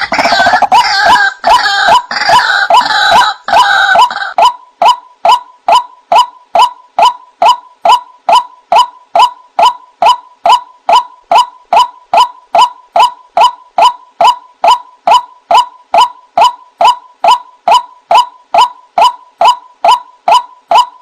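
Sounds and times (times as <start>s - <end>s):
waterhen calling: 0.0s - 21.0s.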